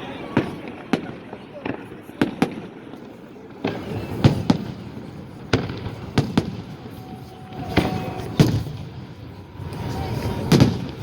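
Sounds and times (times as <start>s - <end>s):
fireworks bangs echoing: 0.2s - 11.0s.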